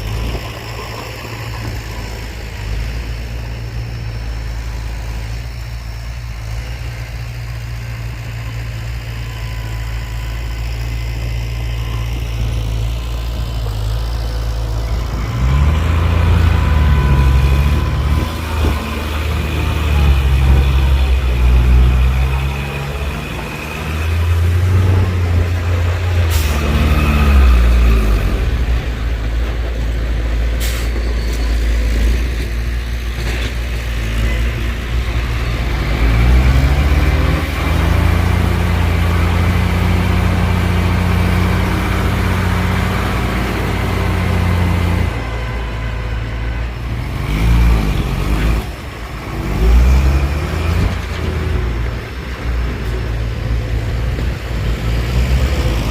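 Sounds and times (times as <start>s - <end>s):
diesel engines revving: 0.0s - 55.9s.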